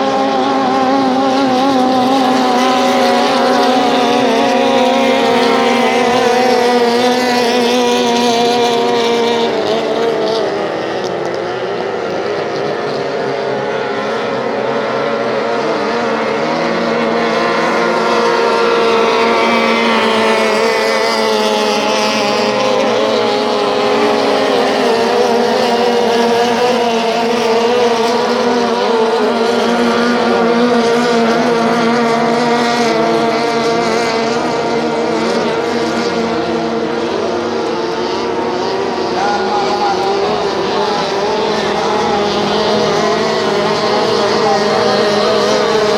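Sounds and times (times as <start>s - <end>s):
outboard motors running at full speed: 0.0s - 45.9s.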